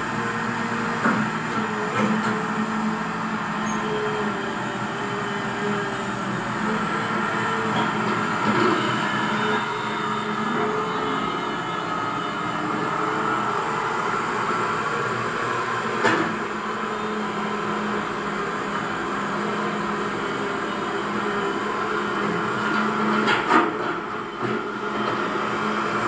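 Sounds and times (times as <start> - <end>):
model excavator motor whine: 0.0 - 26.0.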